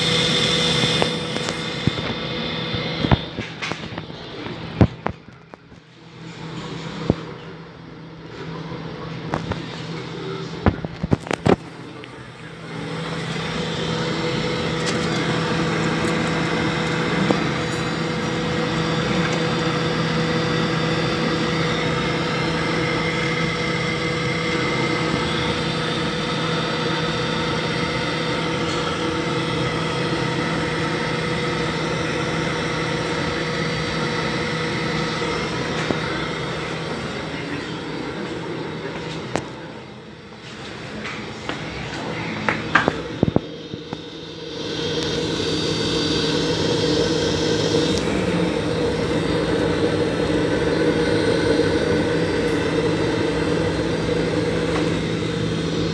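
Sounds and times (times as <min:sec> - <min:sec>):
heater fan whirring hum: 0:00.0 - 0:55.9.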